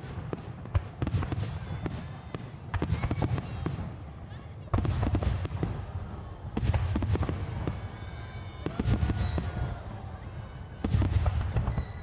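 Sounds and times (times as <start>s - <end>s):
fireworks booming: 0.0s - 4.0s, 4.7s - 12.0s
fireworks crackling and popping: 0.0s - 12.0s.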